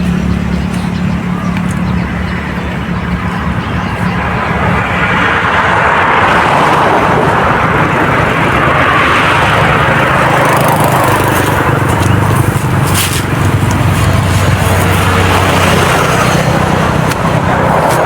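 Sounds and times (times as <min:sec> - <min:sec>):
low engine hum: 0:00.0 - 0:18.0
road traffic rushing past: 0:00.0 - 0:18.0.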